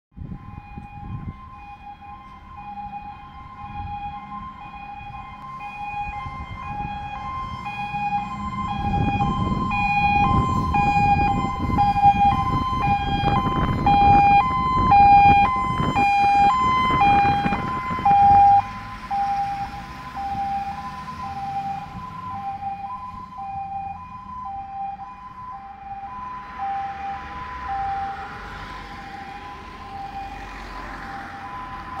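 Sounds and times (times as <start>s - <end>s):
diesel engine and tyre noise: 0.2s - 32.0s
two-tone siren: 0.2s - 32.0s.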